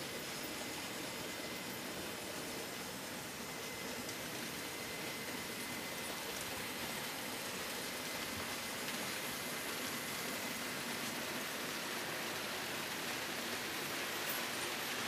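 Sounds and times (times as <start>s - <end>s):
faint high whine: 0.0s - 15.0s
model train wheels rumbling on track: 0.0s - 15.0s.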